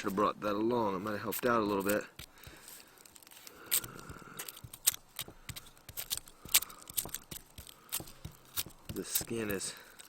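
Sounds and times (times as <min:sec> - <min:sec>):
onion skin crackling and tearing: 0:00.0 - 0:10.0.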